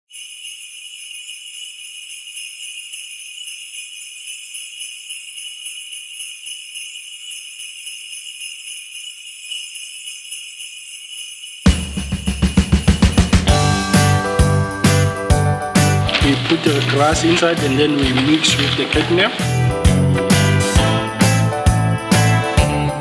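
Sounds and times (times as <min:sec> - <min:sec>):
sleigh bells jingling: 0:00.1 - 0:23.0.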